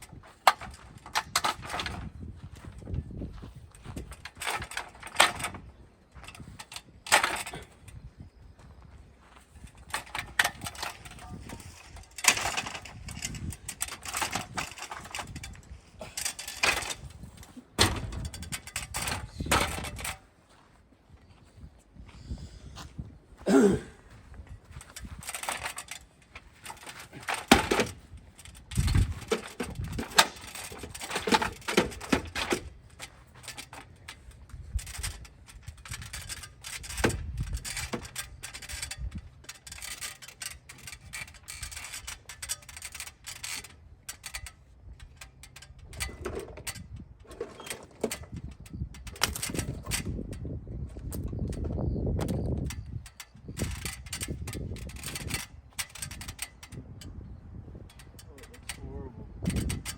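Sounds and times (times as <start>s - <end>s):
ladder clanking and knocking: 0.0s - 8.1s, 9.4s - 20.3s, 23.5s - 57.0s.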